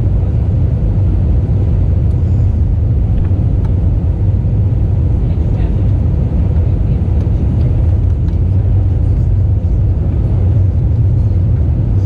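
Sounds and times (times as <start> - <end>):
airliner engine and airflow rumble: 0.0 - 12.0.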